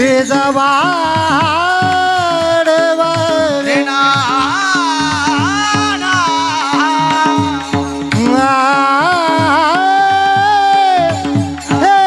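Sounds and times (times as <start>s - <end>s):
hand drum strokes: 0.0s - 12.0s
man singing: 0.0s - 12.0s.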